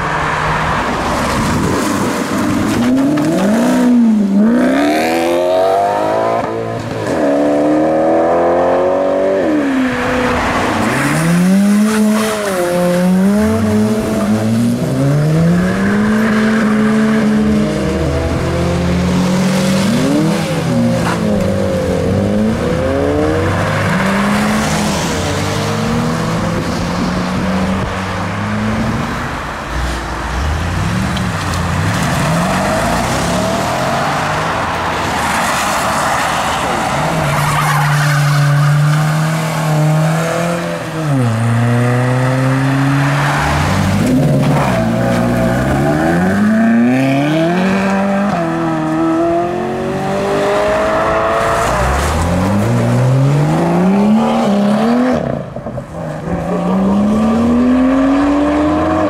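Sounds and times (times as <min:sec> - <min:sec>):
car engines revving accelerating away: 0:00.0 - 0:59.0.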